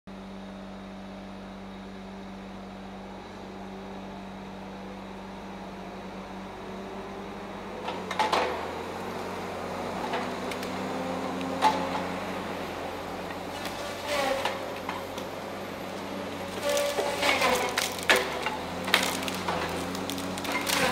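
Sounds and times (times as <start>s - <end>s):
distant heavy machine running: 0.2s - 20.9s.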